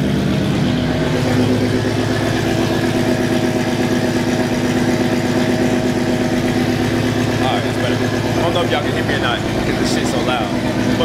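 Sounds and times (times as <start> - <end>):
car engine idling loudly: 0.0 - 11.0.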